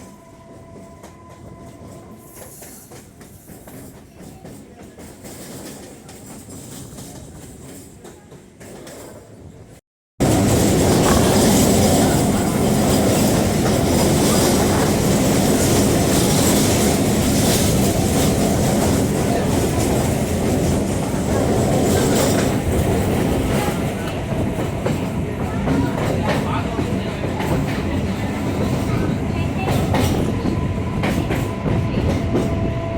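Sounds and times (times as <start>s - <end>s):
train wheels on rails: 0.0s - 32.9s.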